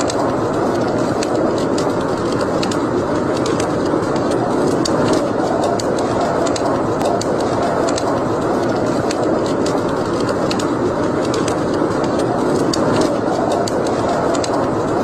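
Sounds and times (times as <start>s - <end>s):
fire crackling and popping: 0.0s - 15.0s
fire rushing noise: 0.0s - 15.0s.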